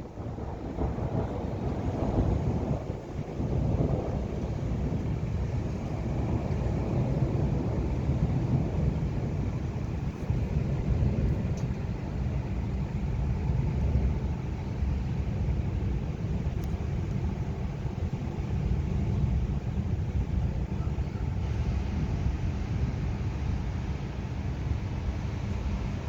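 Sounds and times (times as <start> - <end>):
low rumbling noise: 0.0 - 26.0
rain hissing: 0.0 - 26.0
wind buffeting microphone: 0.0 - 26.0.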